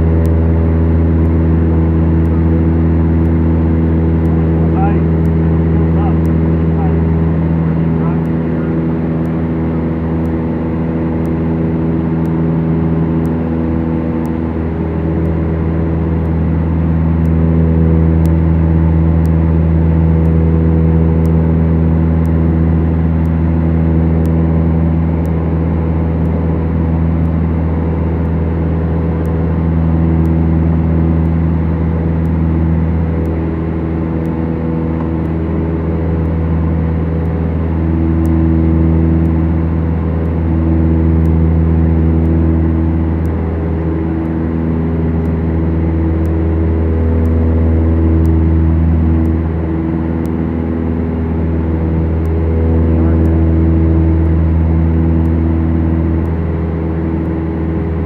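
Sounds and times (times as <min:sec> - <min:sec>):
aircraft propeller engines droning: 0:00.0 - 0:58.0.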